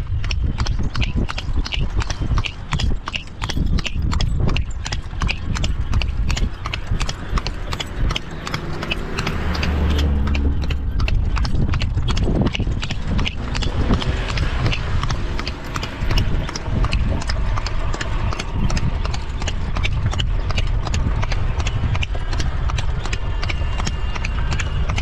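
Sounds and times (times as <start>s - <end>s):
horse hooves clip-clopping: 0.0s - 25.0s
low rumble: 3.3s - 25.0s.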